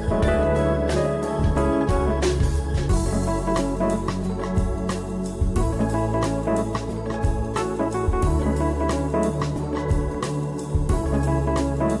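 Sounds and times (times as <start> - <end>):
instrumental music with keyboard: 0.0 - 12.0.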